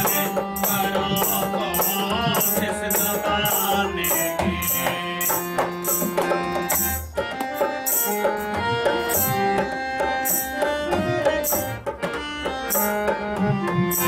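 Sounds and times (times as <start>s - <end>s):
instrumental melody: 0.0s - 14.0s.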